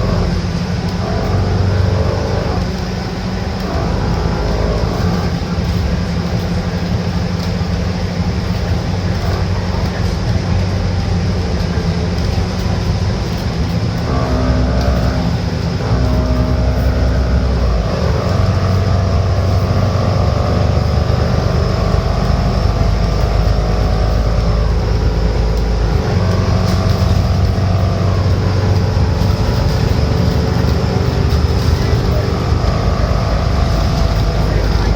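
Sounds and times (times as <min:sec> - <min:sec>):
bus diesel engine droning: 0:00.0 - 0:34.9
transmission whine: 0:00.0 - 0:34.9.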